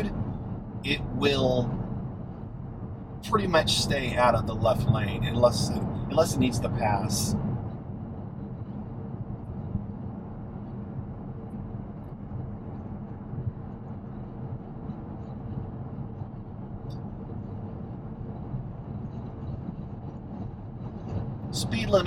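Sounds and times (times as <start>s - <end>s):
road and tyre rumble in car: 0.0s - 22.0s.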